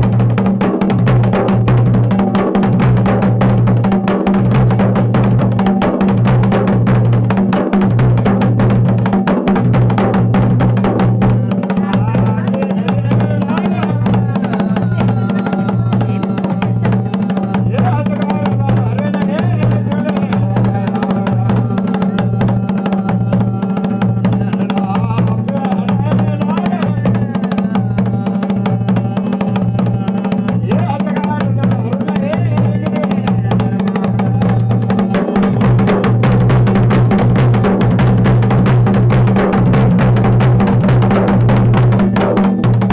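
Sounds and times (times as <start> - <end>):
folk drums playing: 0.0 - 42.9.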